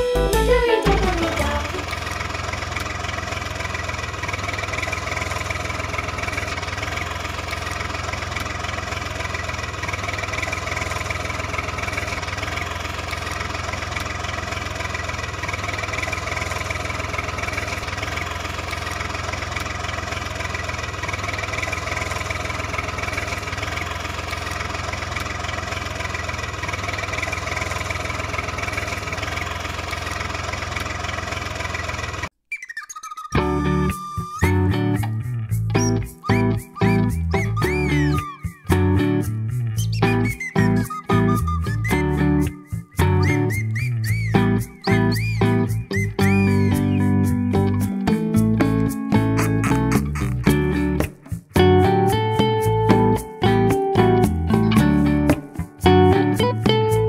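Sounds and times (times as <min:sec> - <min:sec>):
tractor engine idling: 0:00.0 - 0:32.4, 0:33.4 - 0:57.0.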